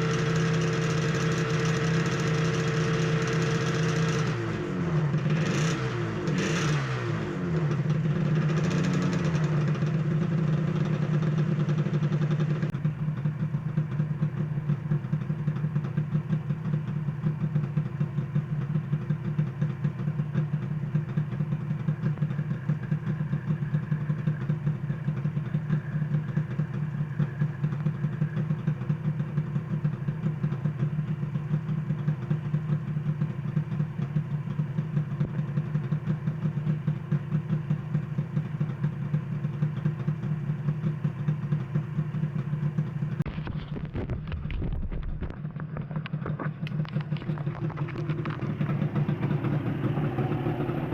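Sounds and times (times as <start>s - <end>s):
two-stroke engine idling: 0.0s - 50.9s.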